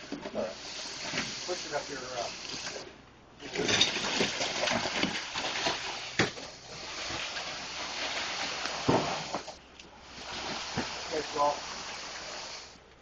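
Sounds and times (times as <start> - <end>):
wet concrete rushing from hose: 0.4 - 12.8.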